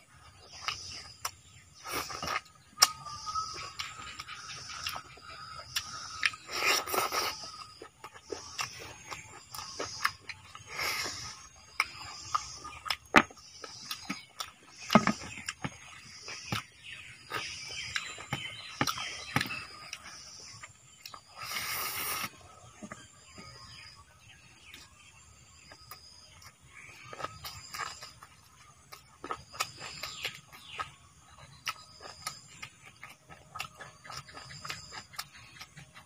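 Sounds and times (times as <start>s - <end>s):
open-mouthed chewing: 0.0s - 36.0s.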